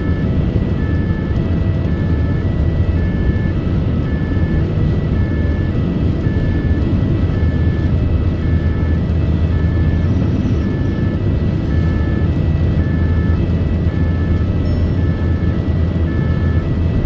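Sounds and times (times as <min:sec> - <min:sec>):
two-tone ambulance siren: 0:00.0 - 0:17.0
vehicle low rumble: 0:00.0 - 0:17.0.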